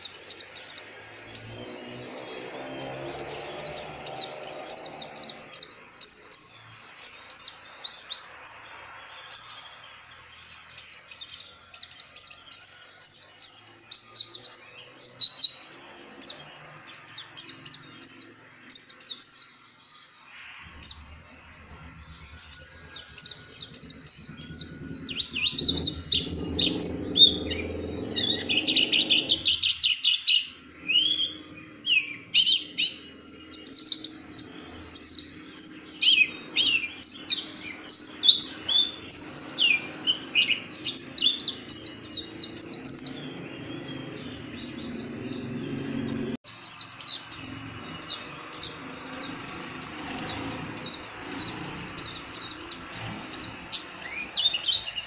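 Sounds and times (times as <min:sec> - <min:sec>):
bird singing high chirps and trills: 0:00.0 - 0:55.0.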